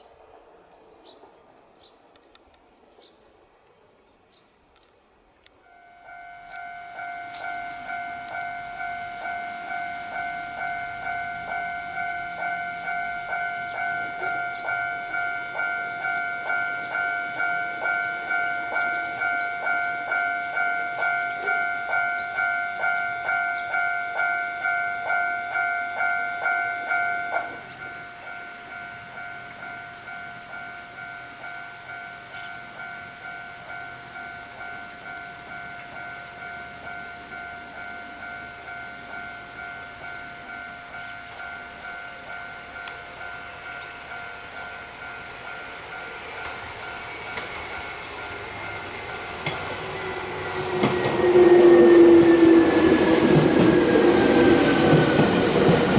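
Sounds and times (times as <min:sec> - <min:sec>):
level crossing warning bell ringing: 0:05.6 - 0:55.9.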